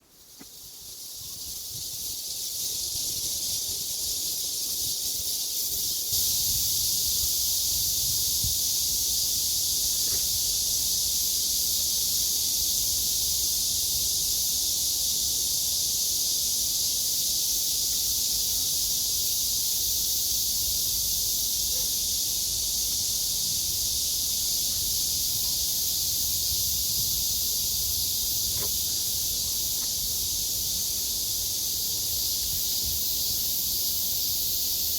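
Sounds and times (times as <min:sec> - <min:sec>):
cicadas buzzing: 0:00.0 - 0:34.9.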